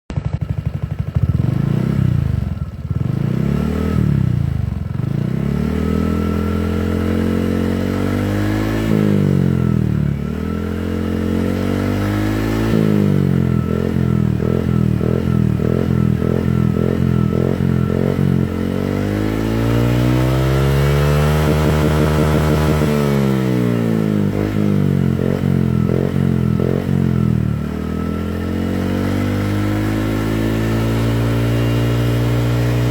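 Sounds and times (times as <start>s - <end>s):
scooter engine revving: 0.1s - 32.9s.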